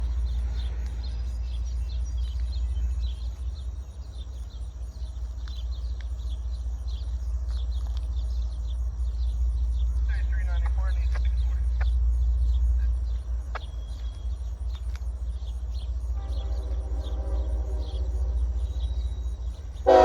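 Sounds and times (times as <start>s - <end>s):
low rumble: 0.0s - 19.9s
birds chirping: 0.0s - 20.0s.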